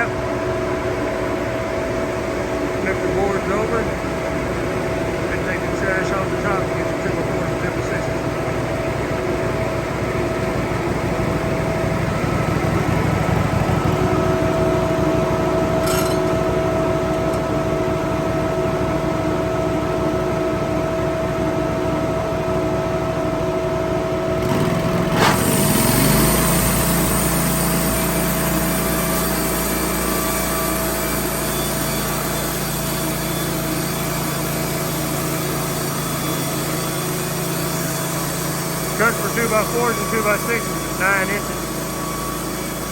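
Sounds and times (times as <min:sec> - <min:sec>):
band sawmill running: 0:00.0 - 0:42.9.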